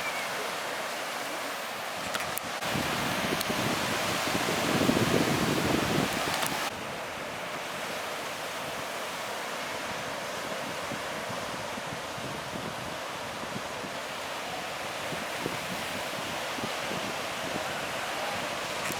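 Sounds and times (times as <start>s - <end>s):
surf breaking on beach: 0.0s - 18.9s
wind on microphone: 1.4s - 18.9s.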